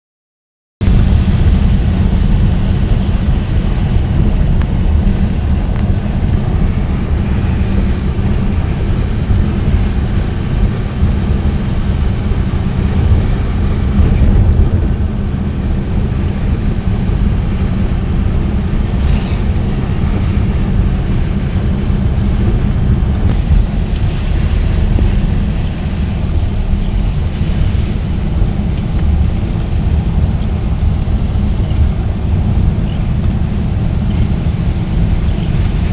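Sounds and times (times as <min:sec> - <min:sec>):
vehicle low rumble: 0:00.8 - 0:35.9
wind buffeting microphone: 0:00.8 - 0:35.9.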